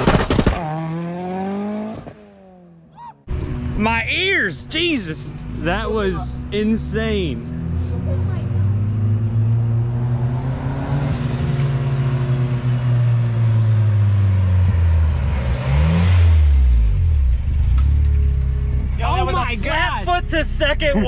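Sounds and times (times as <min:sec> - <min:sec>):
car engine running: 0:03.3 - 0:21.0.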